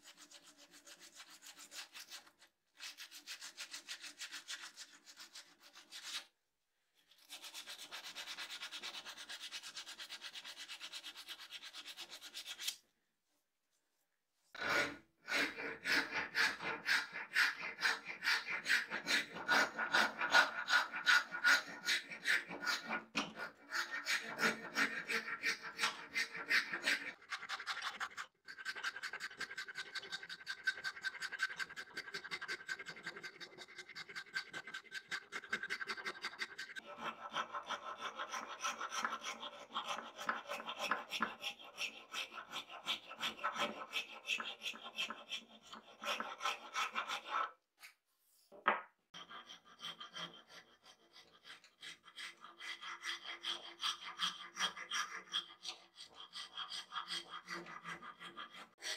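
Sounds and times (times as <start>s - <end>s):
rasp filing wood: 7.2s - 12.8s, 14.6s - 47.6s, 49.1s - 58.9s.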